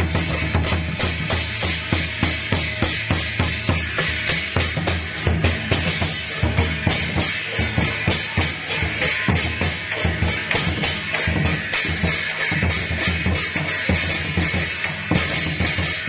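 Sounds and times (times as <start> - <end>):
music with fast drum beat: 0.0 - 16.0.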